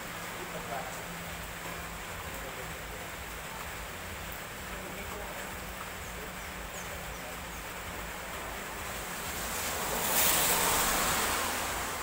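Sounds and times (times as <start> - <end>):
rain on wet road: 0.0 - 12.0
tyres hissing on wet road: 0.0 - 12.0.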